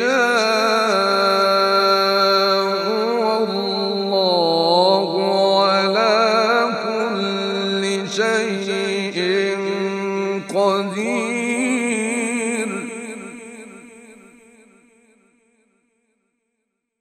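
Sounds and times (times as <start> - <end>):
man reciting in long wavering notes: 0.0 - 14.7.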